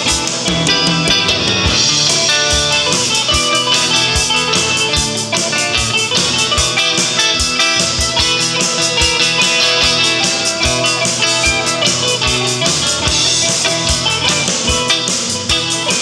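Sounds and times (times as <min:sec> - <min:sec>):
guitars and mandolin playing: 0:00.0 - 0:16.0.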